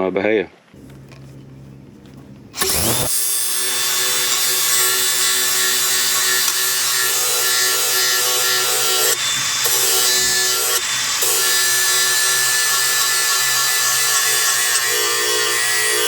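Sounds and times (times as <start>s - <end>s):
angle grinder grinding metal: 0.8s - 16.0s.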